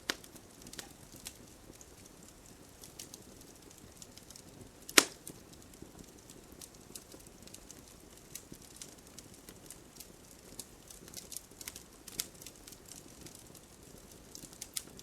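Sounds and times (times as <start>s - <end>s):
sharp snap of fire: 0.0s - 3.5s, 4.1s - 13.4s, 14.3s - 15.0s
wood campfire crackling: 0.0s - 15.0s.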